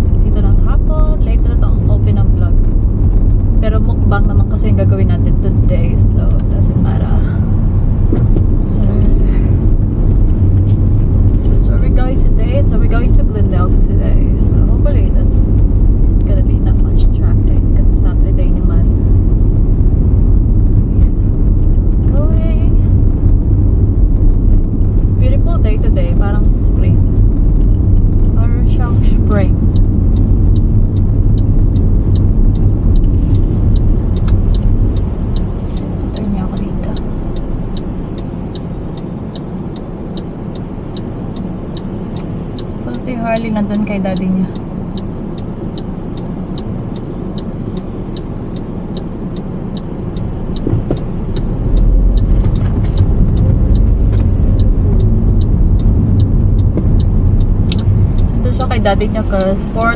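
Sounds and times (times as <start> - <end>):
car road rumble: 0.0 - 59.9
light regular ticking: 0.0 - 59.9.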